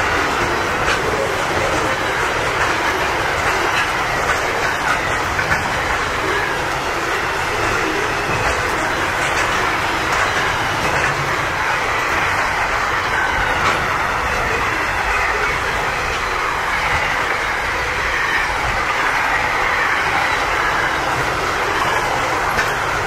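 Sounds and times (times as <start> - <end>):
freight train wheels rumbling: 0.0 - 23.0
wheels clicking over rail joints: 0.0 - 23.0.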